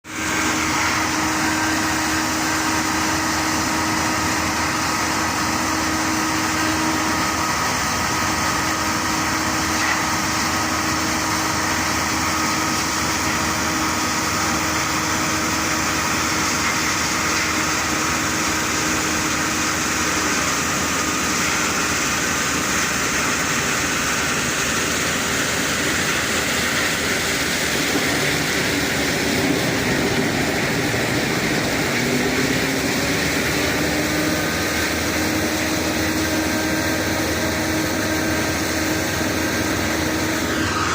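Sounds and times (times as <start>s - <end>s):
wood crusher running: 0.1s - 40.9s.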